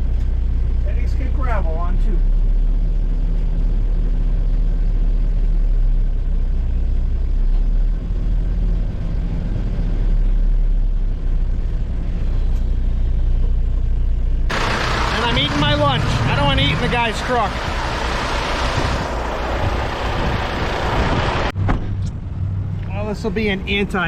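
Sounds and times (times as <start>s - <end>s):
truck diesel engine drone: 0.0s - 24.0s.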